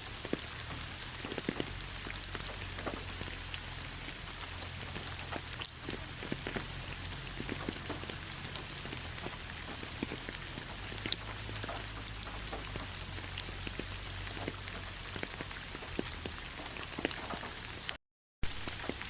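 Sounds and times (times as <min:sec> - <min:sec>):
rain pattering on leaves: 0:00.0 - 0:19.0.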